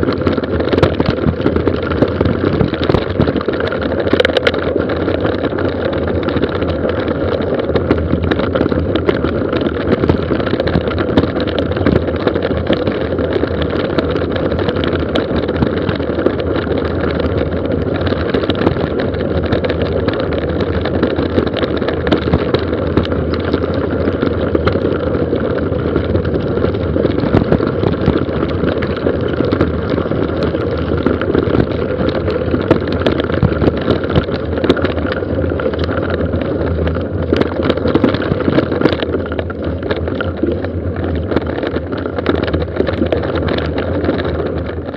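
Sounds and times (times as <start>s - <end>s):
bike rattling and knocking: 0.0s - 44.9s
tyres rushing on loose stones: 0.0s - 44.9s
wind on microphone: 0.0s - 44.9s.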